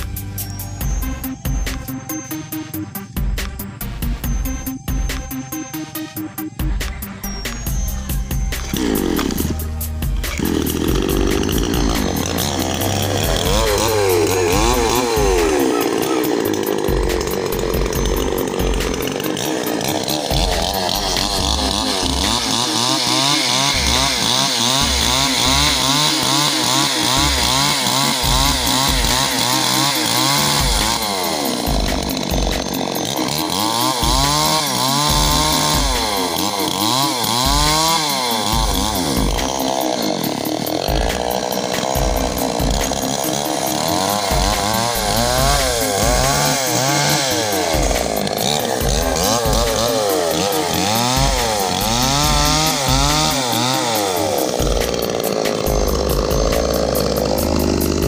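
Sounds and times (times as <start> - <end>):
chainsaw engine running: 0.0 - 58.0.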